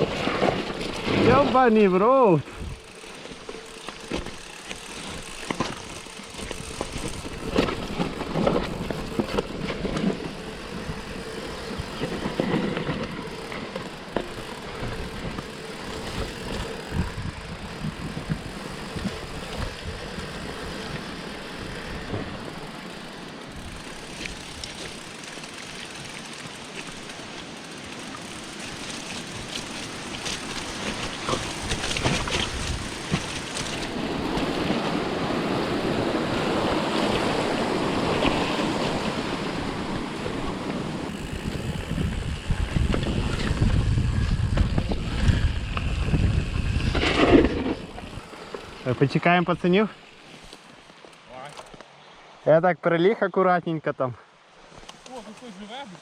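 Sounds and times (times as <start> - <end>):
bike rattling clicks and knocks: 0.0 - 49.2
bike tyres over dirt and stones: 0.0 - 51.9.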